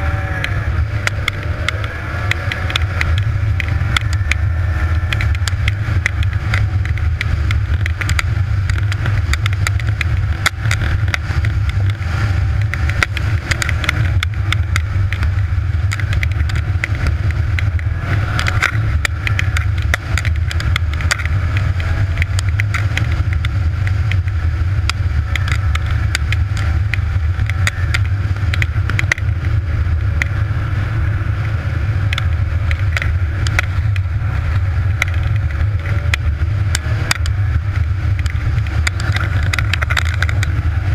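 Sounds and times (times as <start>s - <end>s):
rattles and knocks over snow: 0.0s - 40.9s
snowmobile engine running: 0.0s - 40.9s.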